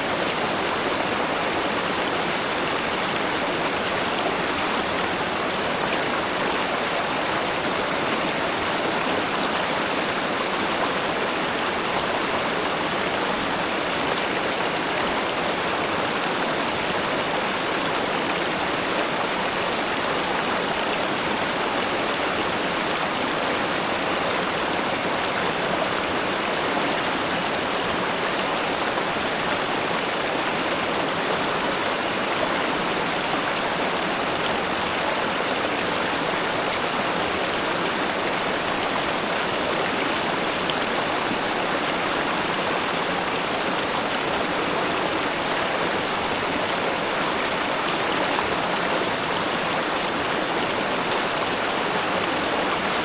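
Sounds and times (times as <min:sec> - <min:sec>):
river water flowing over stones: 0:00.0 - 0:53.0.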